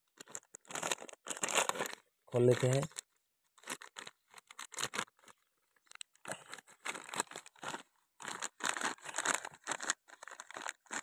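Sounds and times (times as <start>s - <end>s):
plastic packet crinkling and tearing: 0.1s - 11.0s.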